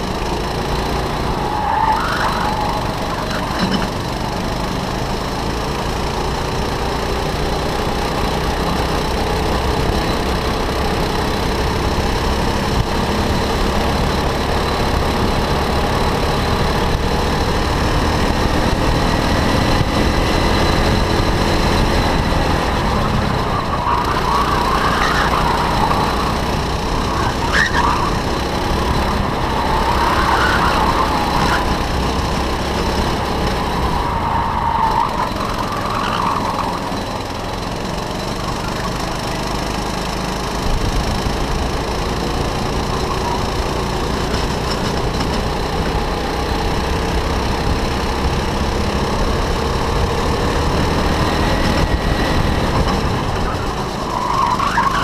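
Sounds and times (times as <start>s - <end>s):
go-kart engine racing: 0.0s - 55.0s.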